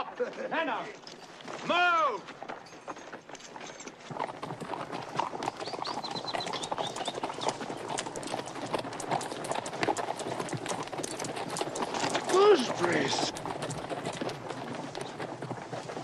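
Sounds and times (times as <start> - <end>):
horses galloping hoofbeats: 0.0 - 16.0.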